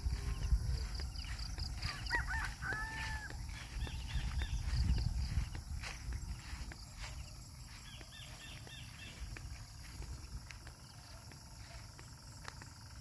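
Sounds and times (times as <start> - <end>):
wind rumble on microphone: 0.0 - 10.9
faint chirps: 0.0 - 13.0
high insect hum: 0.0 - 13.0.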